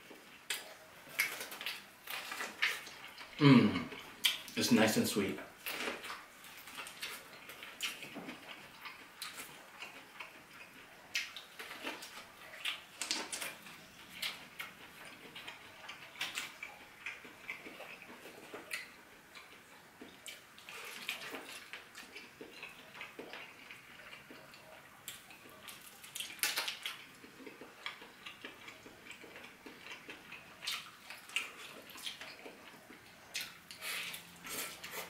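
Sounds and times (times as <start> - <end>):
person chewing: 0.0 - 4.6, 5.6 - 35.0.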